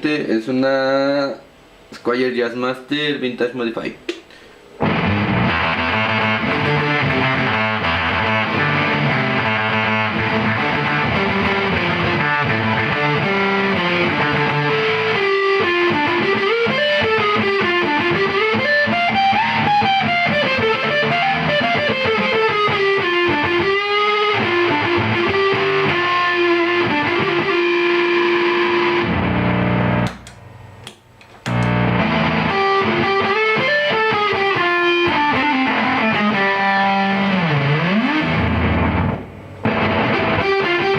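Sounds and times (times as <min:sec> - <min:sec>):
distorted electric guitar: 0:04.3 - 0:40.9.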